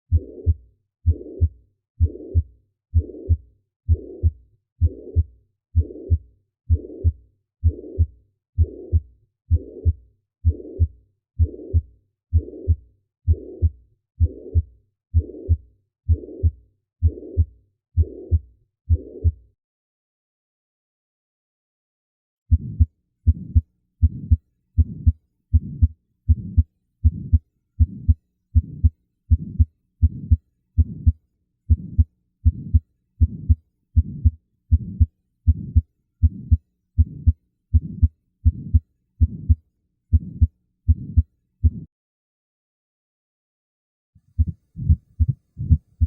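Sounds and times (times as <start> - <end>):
heartbeat through stethoscope: 0.1 - 19.4, 22.5 - 41.9, 44.3 - 46.0.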